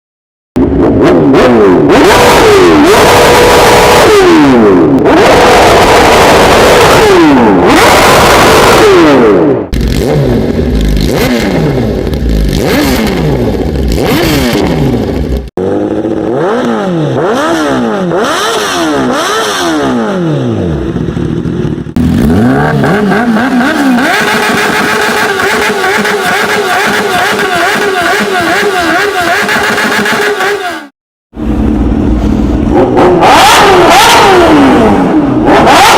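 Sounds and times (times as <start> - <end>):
motorcycle engines revving: 0.6 - 35.9.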